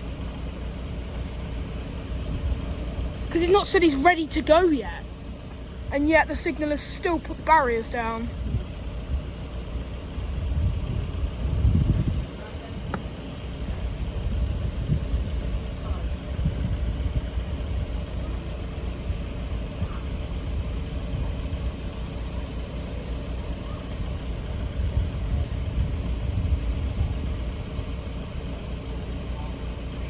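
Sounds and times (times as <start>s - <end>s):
vehicle engines rumbling: 0.0s - 30.0s.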